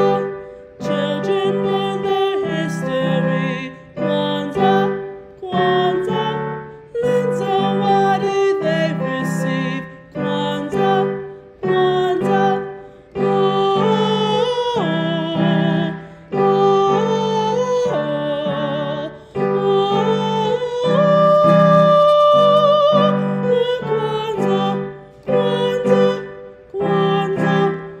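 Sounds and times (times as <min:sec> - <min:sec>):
person singing children's song: 0:00.0 - 0:28.0.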